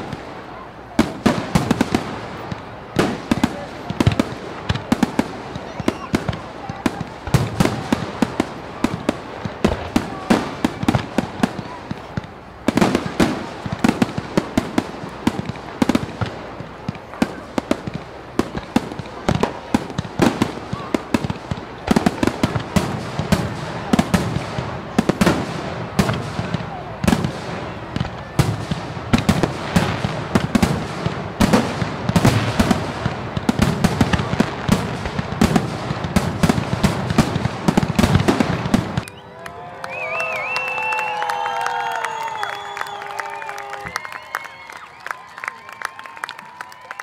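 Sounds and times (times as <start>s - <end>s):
fireworks bangs and crackling: 0.0s - 47.0s.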